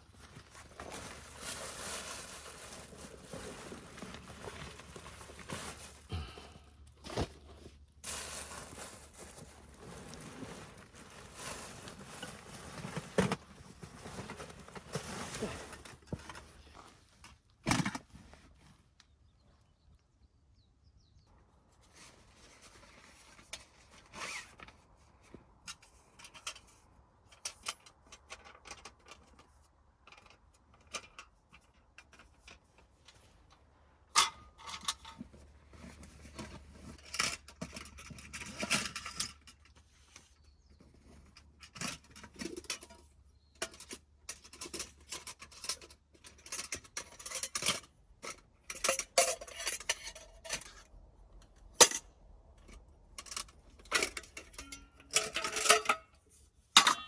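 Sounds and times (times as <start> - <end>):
camping gear rustling and knocking: 0.0 - 19.3, 21.4 - 57.0.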